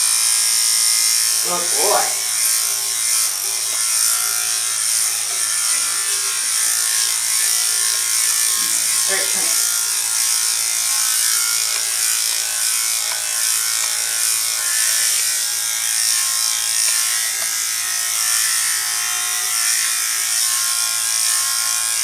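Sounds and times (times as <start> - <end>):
electric clipper buzzing: 0.0 - 22.0.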